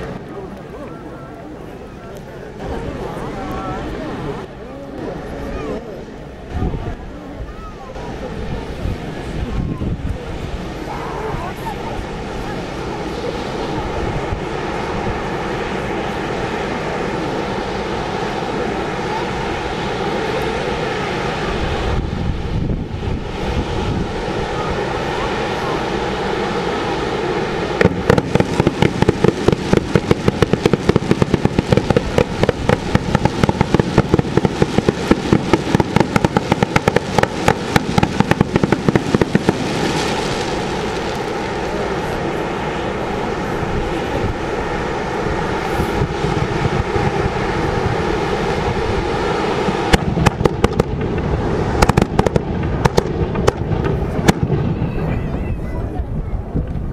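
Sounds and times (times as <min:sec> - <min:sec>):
fireworks hissing and crackling: 0:00.0 - 0:56.9
fireworks bangs: 0:06.4 - 0:56.9.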